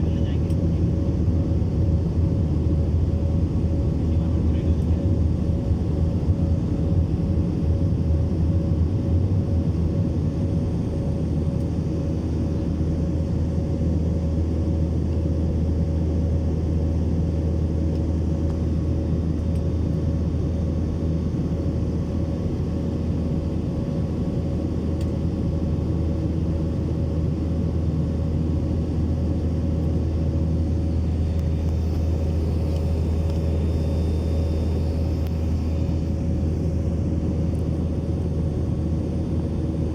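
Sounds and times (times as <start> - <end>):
faint constant hum: 0.0 - 39.9
jet airliner engines droning: 0.0 - 39.9.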